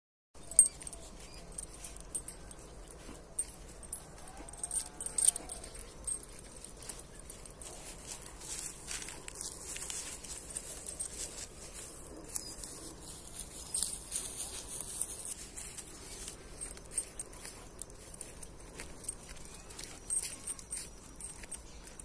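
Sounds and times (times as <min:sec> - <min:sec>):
footsteps on dirt path: 0:00.4 - 0:22.0
metal chain leash jingling: 0:00.4 - 0:22.0.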